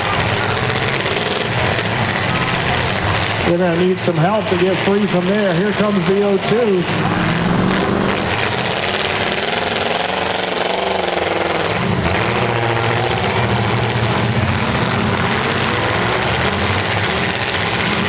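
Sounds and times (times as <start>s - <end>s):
car engines revving roughly: 0.0s - 18.0s.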